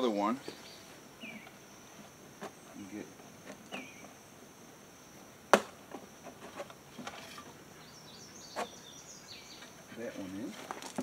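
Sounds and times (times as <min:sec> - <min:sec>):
high insect buzz: 0:00.0 - 0:11.0.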